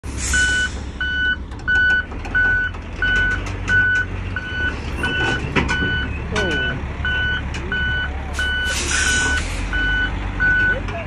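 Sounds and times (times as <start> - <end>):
heavy vehicle engine rumble: 0.0 - 11.0
vehicle backup alarm beeping: 0.3 - 10.9.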